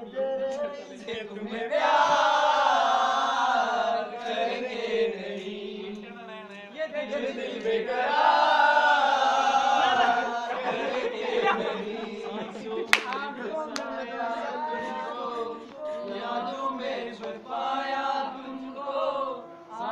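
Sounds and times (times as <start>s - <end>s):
men singing in unison: 0.0s - 19.9s.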